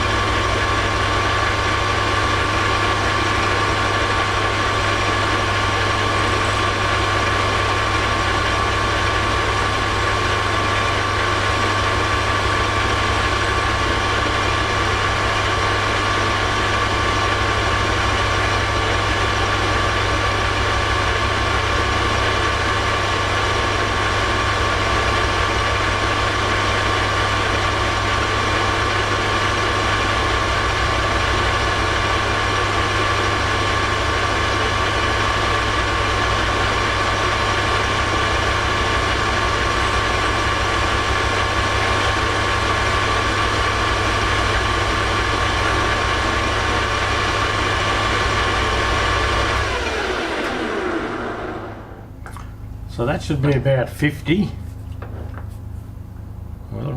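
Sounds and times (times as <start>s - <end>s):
lathe motor hum with whine: 0.0s - 56.9s.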